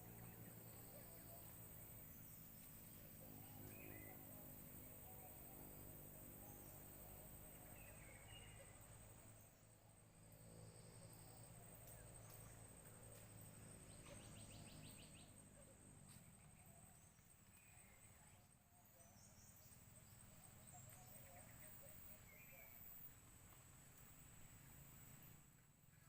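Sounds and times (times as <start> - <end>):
faint chirps: 0.0 - 26.0.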